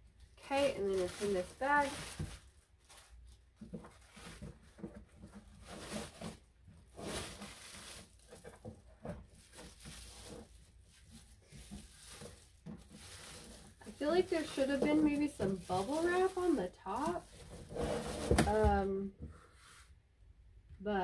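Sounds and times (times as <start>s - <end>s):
plastic bag crinkling: 0.3s - 18.7s.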